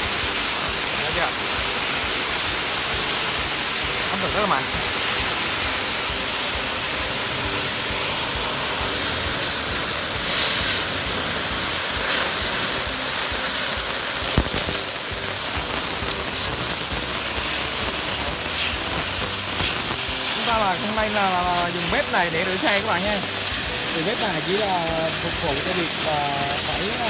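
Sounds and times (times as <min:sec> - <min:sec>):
pressure washer jet hissing: 0:00.0 - 0:27.0.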